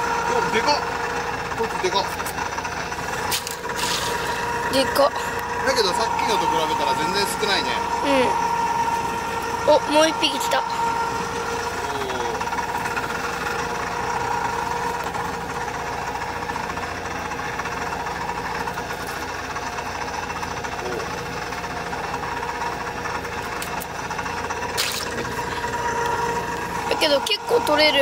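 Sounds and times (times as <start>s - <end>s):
boat engine rumble: 0.0s - 28.0s
net-hauling gear whine: 0.0s - 28.0s.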